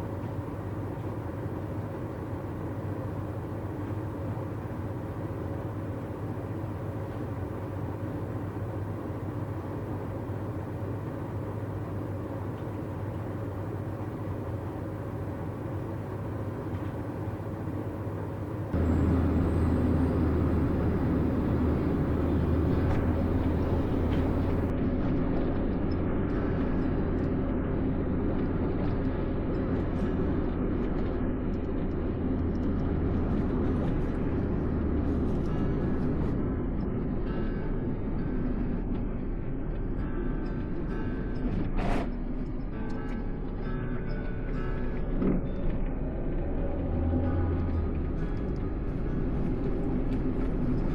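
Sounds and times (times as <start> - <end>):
vehicle engine and road rumble: 0.0 - 50.9.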